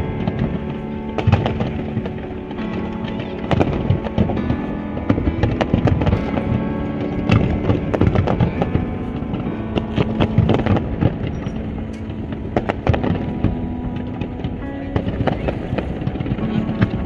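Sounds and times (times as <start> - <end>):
fireworks cracks and bangs: 0.1 - 17.0.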